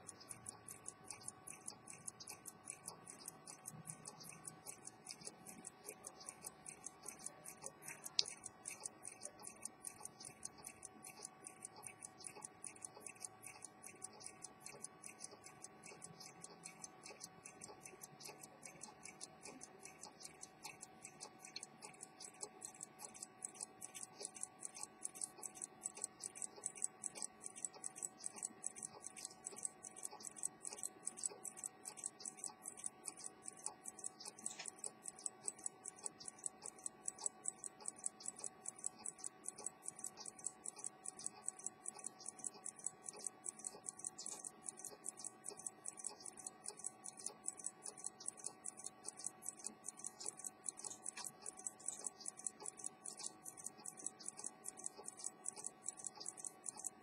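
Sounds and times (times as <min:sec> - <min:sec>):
faint steady hum: 0:00.0 - 0:57.0
pocket watch ticking: 0:00.0 - 0:57.0.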